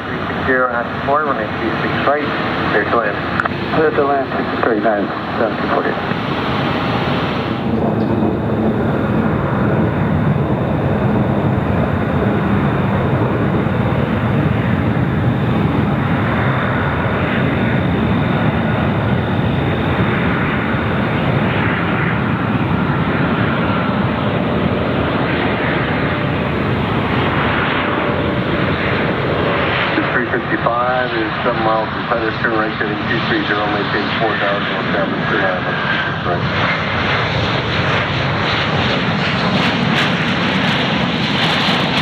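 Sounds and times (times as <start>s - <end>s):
faint high whine: 0.0s - 36.6s
jet engines running: 0.0s - 42.0s.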